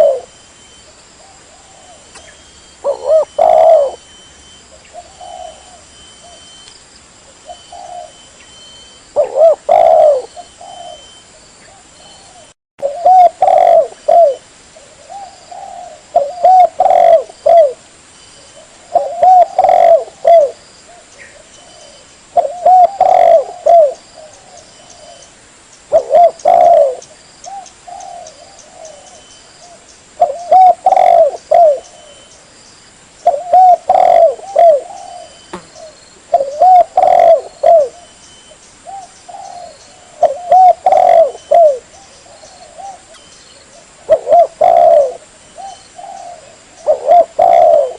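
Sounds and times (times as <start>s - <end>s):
dove cooing: 0.0s - 0.4s, 1.2s - 6.6s, 7.4s - 8.4s, 9.1s - 17.8s, 18.5s - 25.3s, 25.9s - 32.3s, 33.2s - 47.9s.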